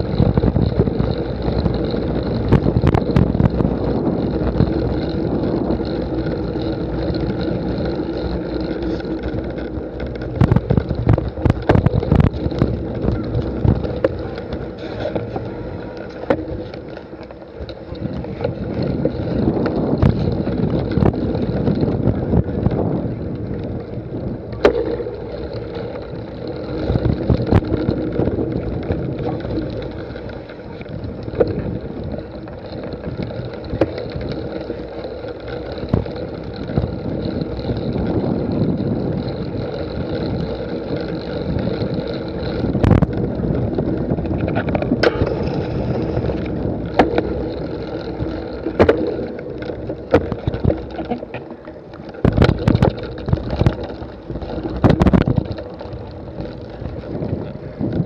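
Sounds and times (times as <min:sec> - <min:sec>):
bike rattling over rough ground: 0:00.0 - 0:58.0
wind on microphone: 0:00.0 - 0:58.0.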